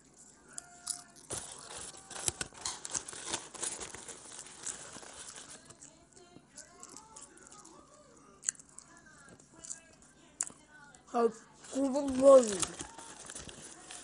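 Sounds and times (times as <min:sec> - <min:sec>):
popcorn crinkling and rustling: 0:00.0 - 0:09.9, 0:11.2 - 0:14.0.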